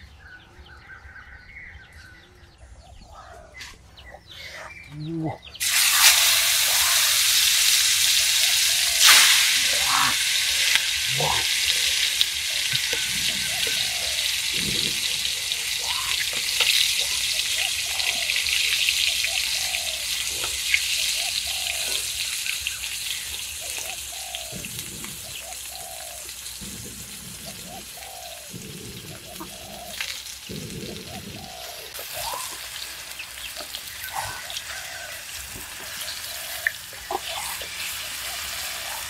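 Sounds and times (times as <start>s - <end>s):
food sizzling in hot oil: 5.6s - 39.0s.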